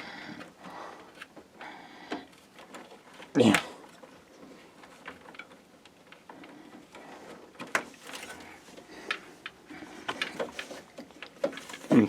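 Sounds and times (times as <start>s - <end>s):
clicks of handling computer parts: 0.0s - 12.0s.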